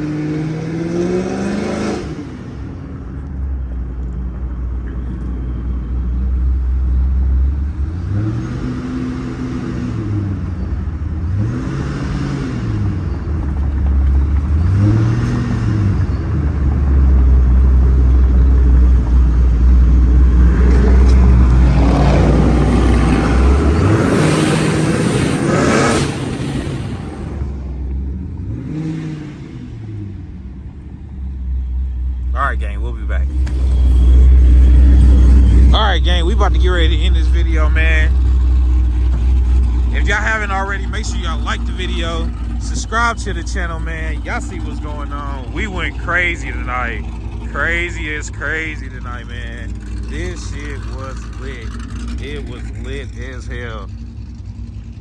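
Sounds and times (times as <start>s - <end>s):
car exhaust idling and revving: 0.0s - 55.0s.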